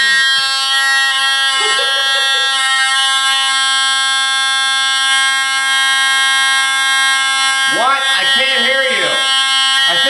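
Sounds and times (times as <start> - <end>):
smoke alarm continuous high tone: 0.0 - 10.0.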